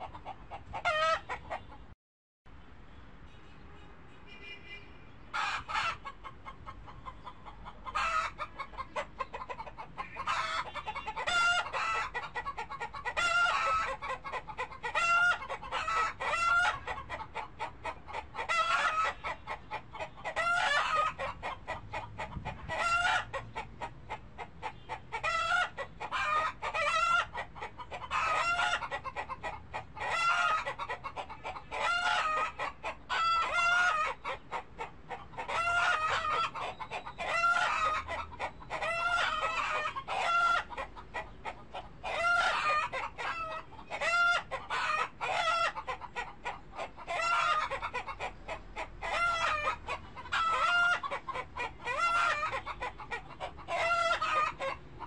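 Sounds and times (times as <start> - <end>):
chickens clucking: 0.0 - 2.0, 5.3 - 55.0.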